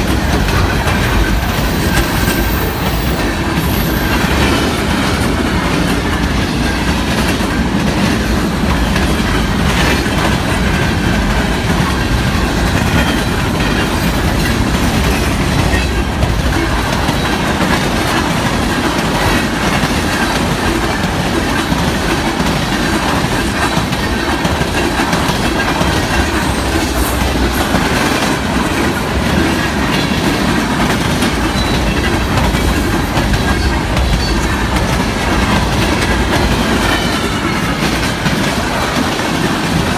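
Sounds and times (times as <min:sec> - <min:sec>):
freight train rumble: 0:00.0 - 0:39.9
wheels clattering over rails: 0:00.0 - 0:39.9.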